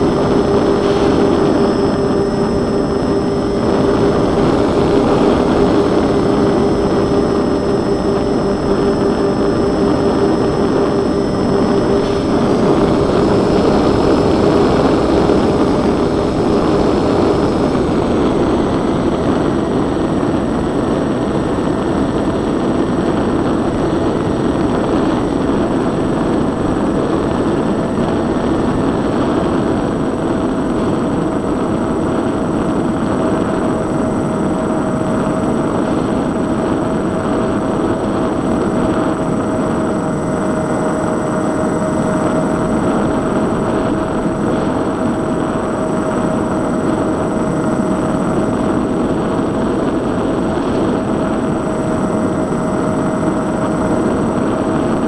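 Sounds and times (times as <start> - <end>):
airflow rushing: 0.0 - 55.0
high whine: 0.0 - 55.0
motors and propellers humming: 0.0 - 55.0.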